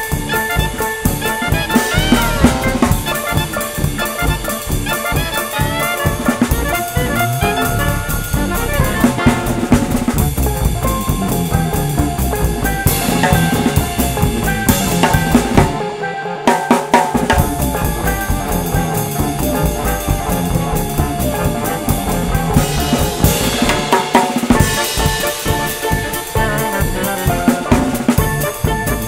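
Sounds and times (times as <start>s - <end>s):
drum kit with cymbals: 0.0s - 29.0s
jazzy backing track with brass: 0.0s - 29.0s.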